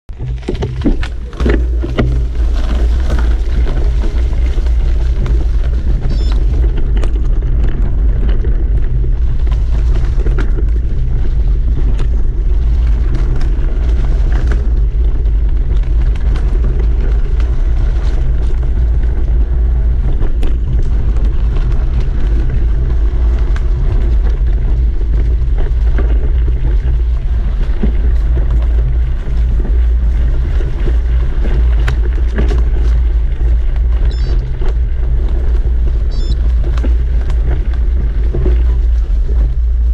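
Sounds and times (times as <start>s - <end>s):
bike rattling: 0.1s - 39.9s
tyres on dirt trail: 0.1s - 39.9s
wind buffeting microphone: 0.1s - 39.9s.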